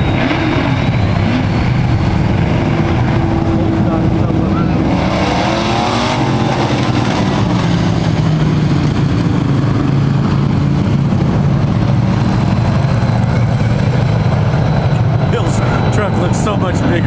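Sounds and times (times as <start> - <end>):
racing truck engines revving: 0.0 - 17.0.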